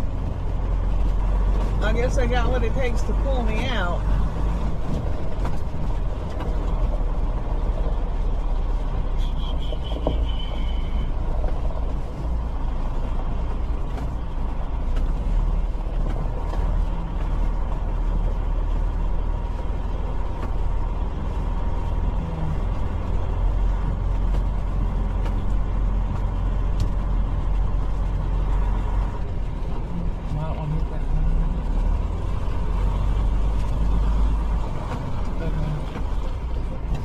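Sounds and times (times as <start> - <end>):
diesel truck engine rumbling: 0.0 - 37.0.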